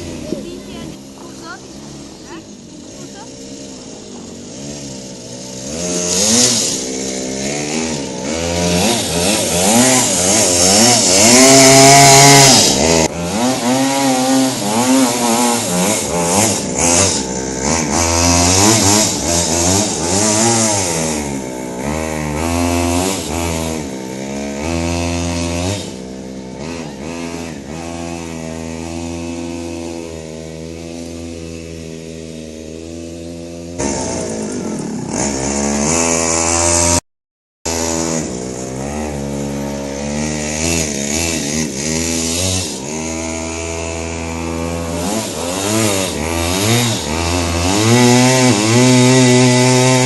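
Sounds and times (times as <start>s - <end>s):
minibike engine revving: 0.0s - 37.0s, 37.7s - 50.0s.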